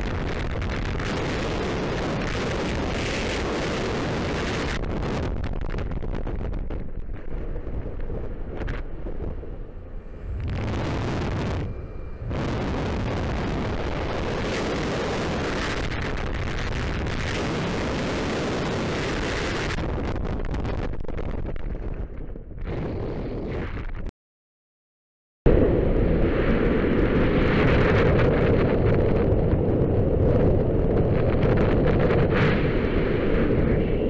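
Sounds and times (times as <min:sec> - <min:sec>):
wind buffeting microphone: 0:00.0 - 0:24.1, 0:25.5 - 0:34.0.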